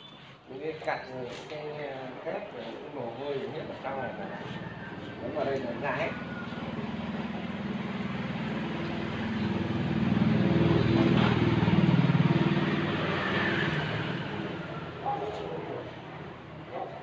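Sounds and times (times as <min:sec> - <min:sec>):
motorcycle engine passing by: 0:03.2 - 0:17.0.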